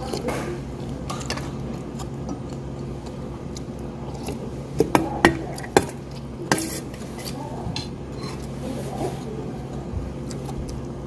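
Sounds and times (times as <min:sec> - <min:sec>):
utensils clinking against dishes: 0:00.0 - 0:02.6, 0:04.1 - 0:10.5.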